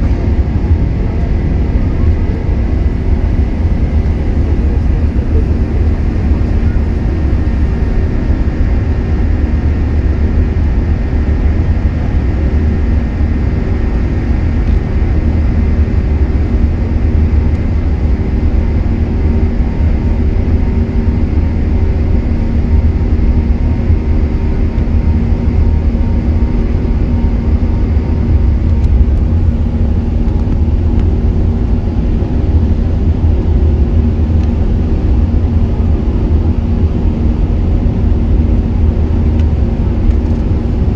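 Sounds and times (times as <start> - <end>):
jet engines rumbling: 0.0 - 40.9
steady hum: 0.0 - 40.9.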